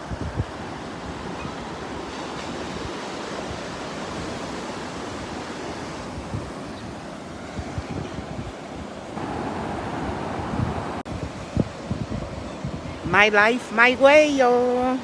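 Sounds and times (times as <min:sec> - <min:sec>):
ocean surf washing in: 0:00.0 - 0:15.0
wind gusting on microphone: 0:00.0 - 0:15.0.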